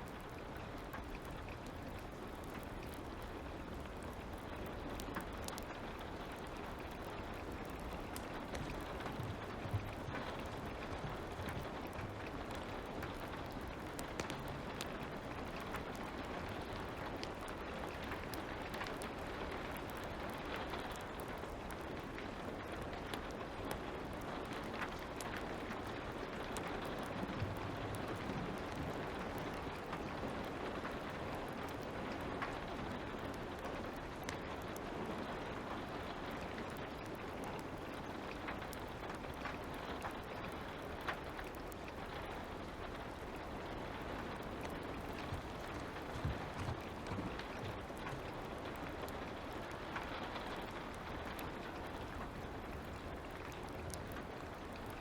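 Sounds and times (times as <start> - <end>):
light rain falling: 0.0 - 55.0
wood fire crackling: 0.0 - 55.0.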